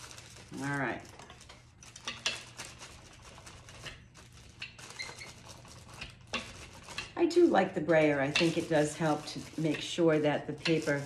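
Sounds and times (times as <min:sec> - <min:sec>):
plastic sheet crinkling and rustling: 0:00.0 - 0:11.0.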